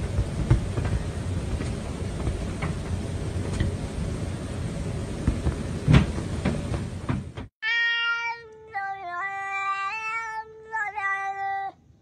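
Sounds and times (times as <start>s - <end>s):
noisy hiss: 0.0s - 12.0s.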